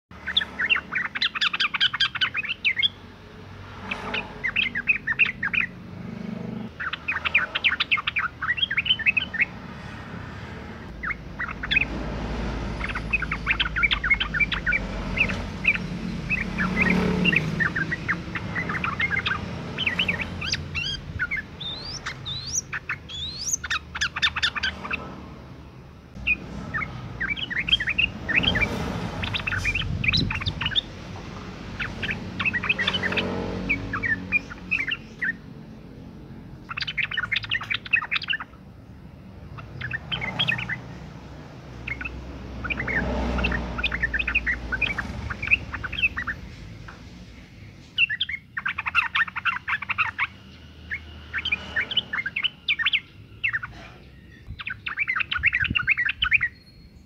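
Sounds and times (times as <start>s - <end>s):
bird chattering chirps: 0.1s - 3.1s, 3.7s - 10.0s, 10.8s - 57.0s.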